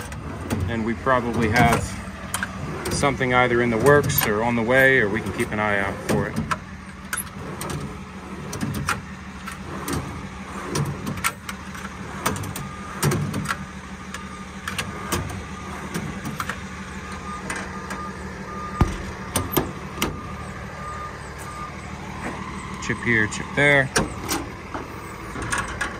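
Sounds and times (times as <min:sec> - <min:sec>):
metal drawers clicking and clunking: 0:00.0 - 0:20.4, 0:23.6 - 0:25.9.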